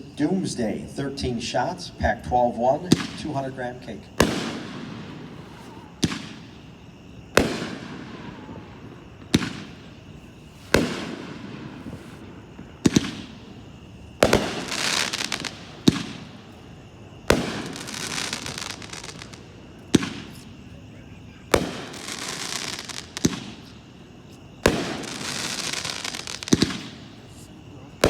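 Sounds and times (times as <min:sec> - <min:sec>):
firework crackling: 0:02.5 - 0:28.0
firework bangs with hiss: 0:02.7 - 0:28.0.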